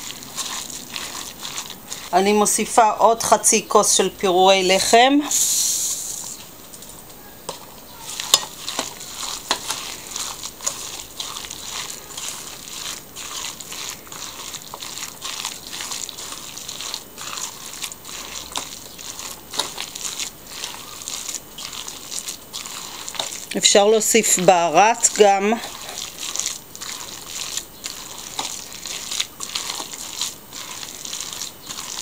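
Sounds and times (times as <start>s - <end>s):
hands squishing meat mixture: 0.0s - 6.4s, 7.2s - 32.0s.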